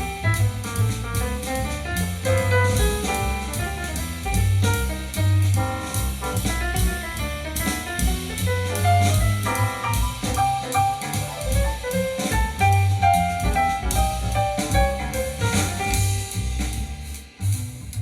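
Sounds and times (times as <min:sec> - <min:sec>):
jazz music with drums and bass: 0:00.0 - 0:18.0.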